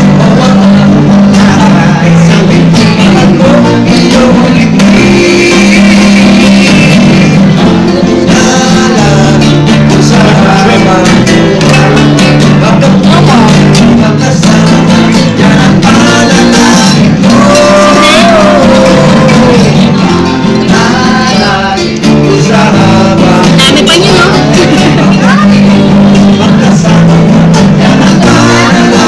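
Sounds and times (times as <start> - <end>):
acoustic guitar: 0.0 - 29.0
person singing: 0.0 - 29.0
plucked double bass: 0.0 - 29.0.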